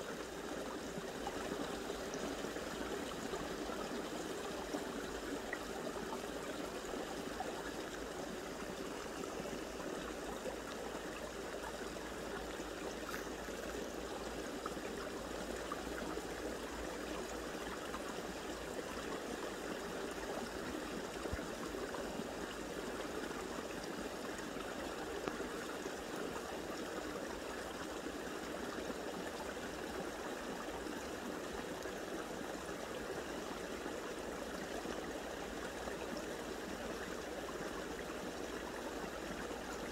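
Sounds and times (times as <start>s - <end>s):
small stream rushing and trickling: 0.0s - 39.9s.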